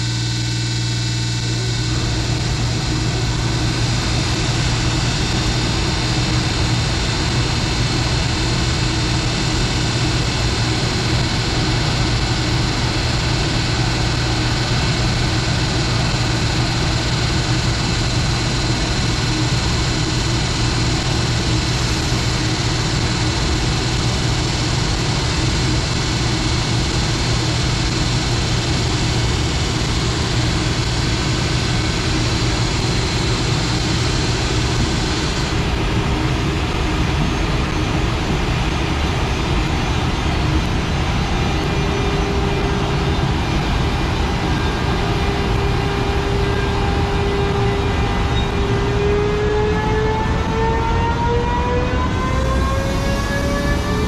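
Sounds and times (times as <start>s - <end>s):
electric locomotive hum: 0.0s - 54.0s
high whine: 0.0s - 54.0s.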